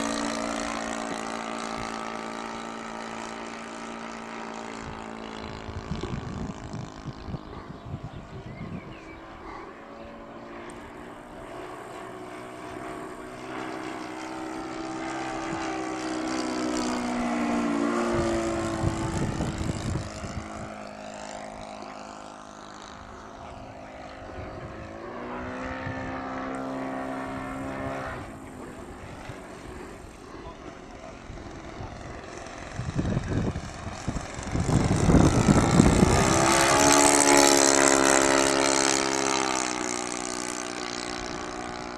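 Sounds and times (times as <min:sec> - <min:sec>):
propeller plane flying overhead: 0:00.0 - 0:41.9.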